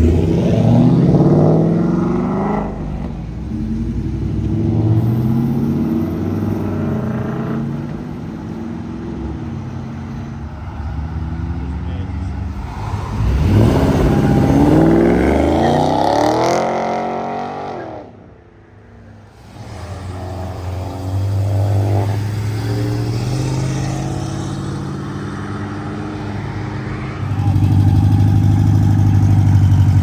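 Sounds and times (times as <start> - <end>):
car engine revving: 0.0 - 17.9, 19.3 - 30.0.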